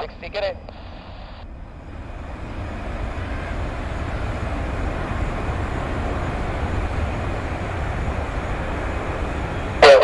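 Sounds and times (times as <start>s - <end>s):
aircraft engine rumble: 0.0s - 10.0s.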